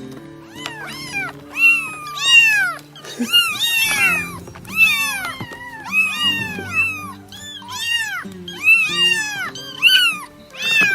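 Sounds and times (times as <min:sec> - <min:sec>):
kittens meowing: 0:00.0 - 0:10.9
soft background music: 0:00.0 - 0:10.9.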